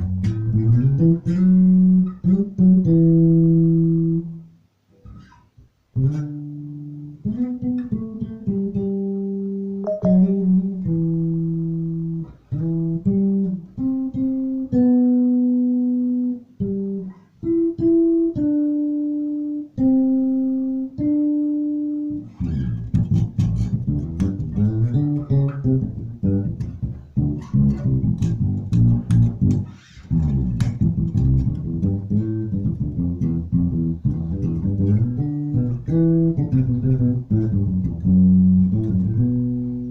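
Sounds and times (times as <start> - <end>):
electric bass playing: 0.0 - 4.3, 9.9 - 18.7, 19.8 - 39.9.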